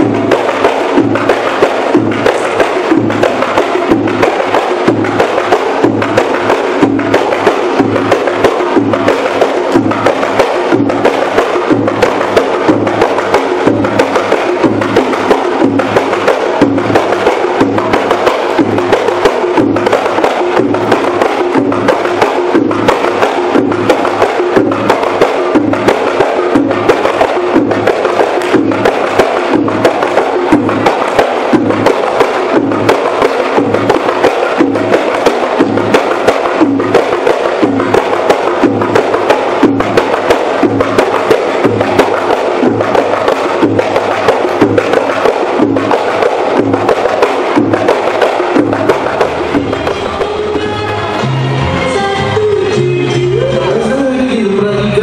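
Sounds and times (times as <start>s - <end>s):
fast drum beat: 0.0s - 51.6s.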